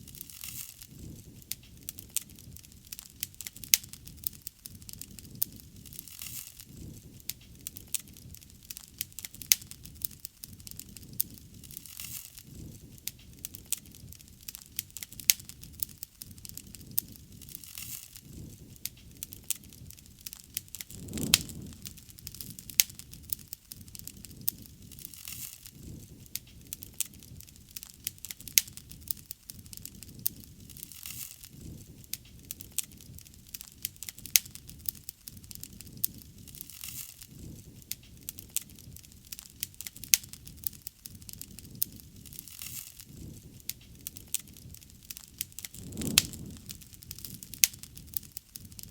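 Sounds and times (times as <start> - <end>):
low rumble of flames: 0.0 - 48.9
sharp pops of fire: 0.0 - 48.9
wood fire crackling: 0.0 - 48.9.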